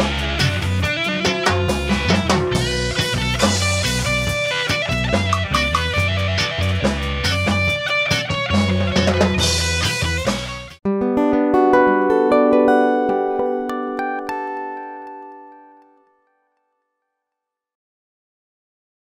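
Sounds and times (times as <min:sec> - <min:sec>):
rock band playing: 0:00.0 - 0:15.7.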